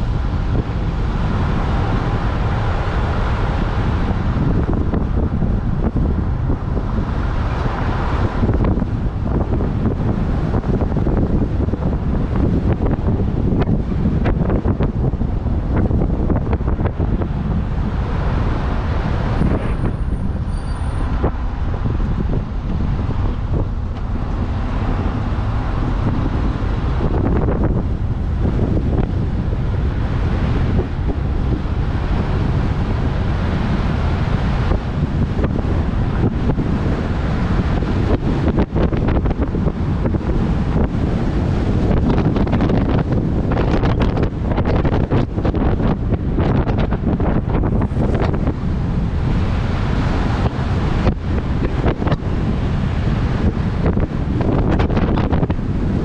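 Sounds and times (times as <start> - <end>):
engine and road rumble: 0.0 - 56.0
wind buffeting microphone: 0.0 - 56.0.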